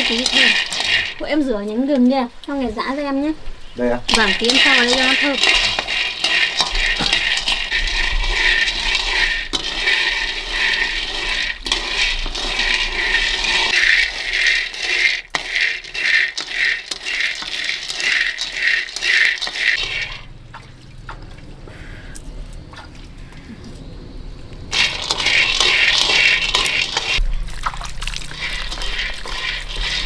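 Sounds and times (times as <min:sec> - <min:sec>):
peanuts stirred in hot pan: 0:00.0 - 0:03.2, 0:04.0 - 0:20.3, 0:24.7 - 0:30.0.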